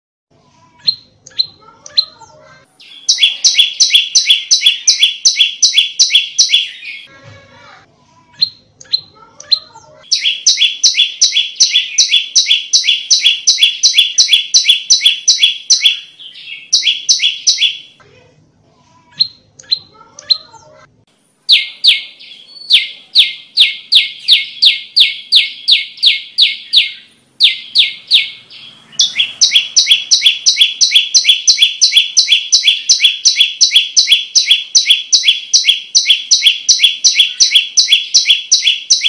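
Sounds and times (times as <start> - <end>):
songbird singing: 0.7 - 7.1, 8.4 - 18.0, 21.5 - 39.0.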